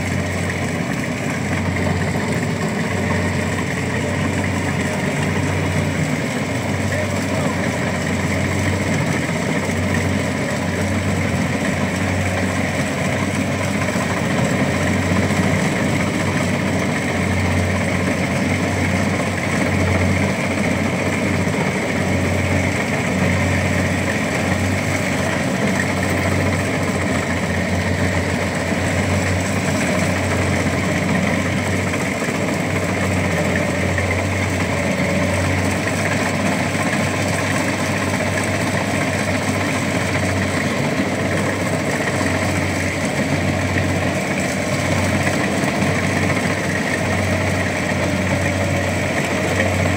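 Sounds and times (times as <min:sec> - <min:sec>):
harvesting machine engine throbbing: 0:00.0 - 0:49.9.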